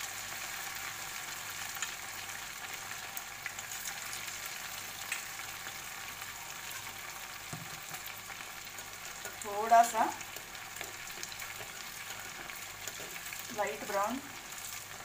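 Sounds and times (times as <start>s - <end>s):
oil sizzling: 0.0s - 15.0s
sharp crackles of frying: 0.0s - 15.0s.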